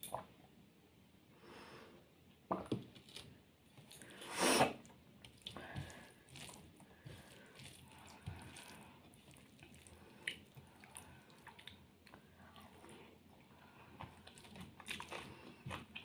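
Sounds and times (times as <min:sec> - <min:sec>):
soft chewing: 0:02.9 - 0:16.0.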